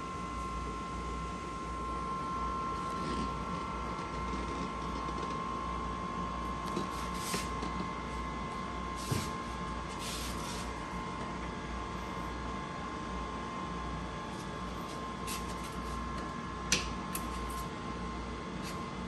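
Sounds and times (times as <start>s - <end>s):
copier high whine: 0.0s - 19.0s.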